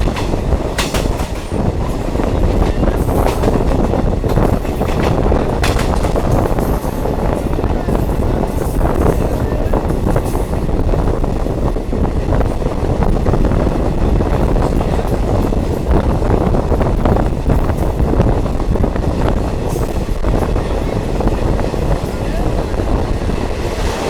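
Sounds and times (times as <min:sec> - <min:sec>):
diesel train rumbling: 0:00.0 - 0:24.0
wheel and track noise: 0:00.0 - 0:24.0.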